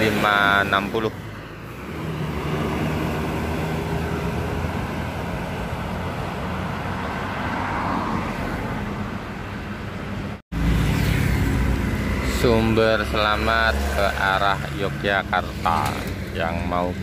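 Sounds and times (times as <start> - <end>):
bus engine moving away: 0.0 - 16.4
traffic noise: 0.0 - 17.0.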